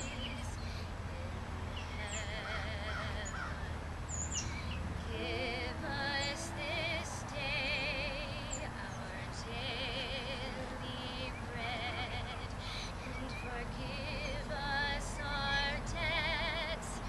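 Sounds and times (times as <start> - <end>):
woman singing with vibrato: 0.0 - 3.8, 4.4 - 17.0.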